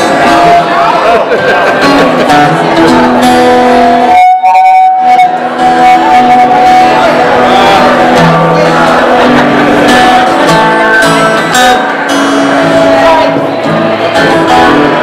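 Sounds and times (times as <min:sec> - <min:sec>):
guitar: 0:00.0 - 0:15.0
melody of long held notes: 0:01.8 - 0:15.0.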